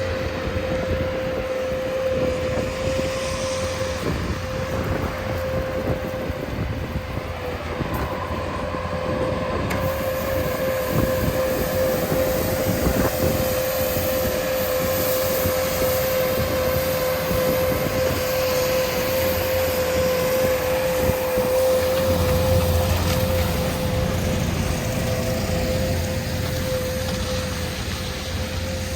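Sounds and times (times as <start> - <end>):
machine drone with whine: 0.0 - 28.9.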